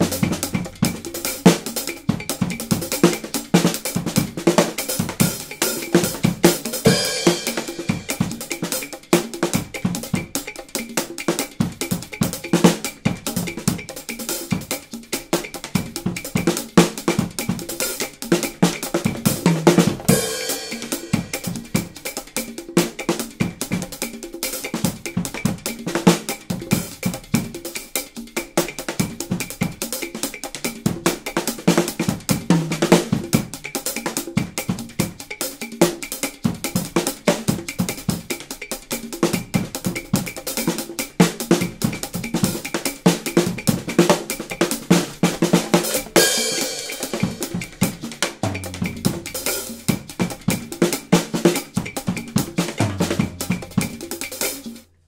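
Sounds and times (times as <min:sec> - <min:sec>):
drum kit played fast: 0:00.0 - 0:55.0.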